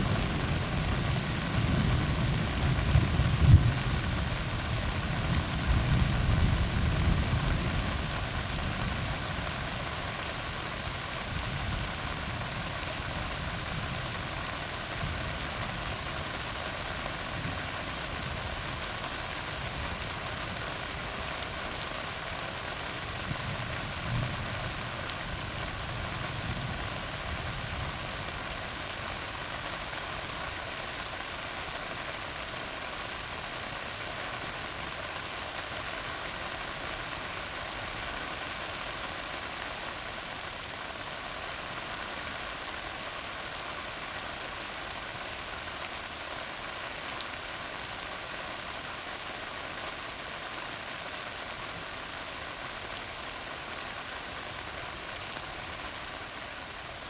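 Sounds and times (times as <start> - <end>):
rain falling on a road: 0.0 - 57.0.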